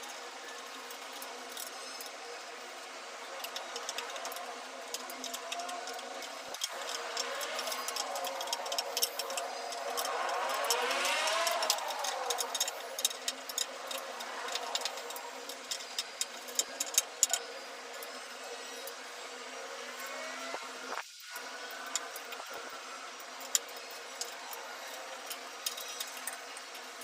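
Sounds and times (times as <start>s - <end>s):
steady mechanical hum: 0.0s - 27.0s
sharp clicks and ticks: 3.3s - 19.0s, 20.0s - 27.0s.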